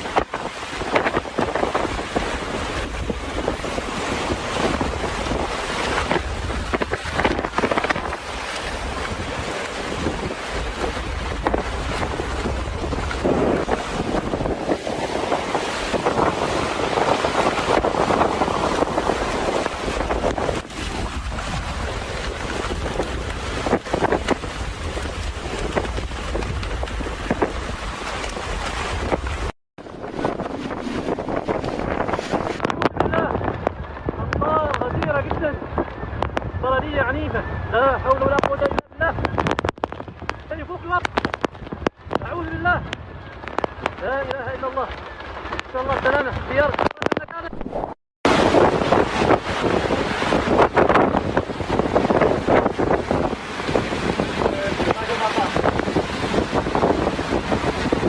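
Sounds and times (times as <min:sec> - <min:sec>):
storm wind buffeting microphone: 0:00.0 - 0:58.0.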